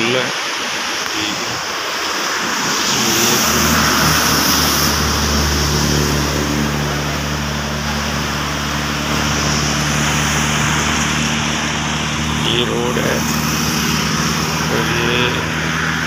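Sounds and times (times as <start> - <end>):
floodwater rushing: 0.0 - 16.0
vehicle engine running: 2.9 - 16.0.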